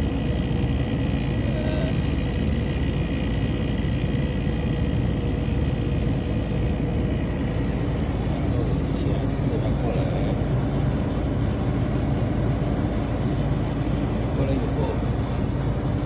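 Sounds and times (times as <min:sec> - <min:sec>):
fans and compressor humming: 0:00.0 - 0:16.0.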